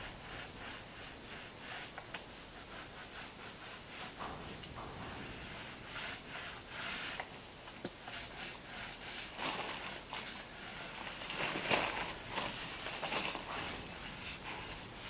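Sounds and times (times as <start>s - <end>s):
foam roller swishing on wood: 0.0s - 15.0s.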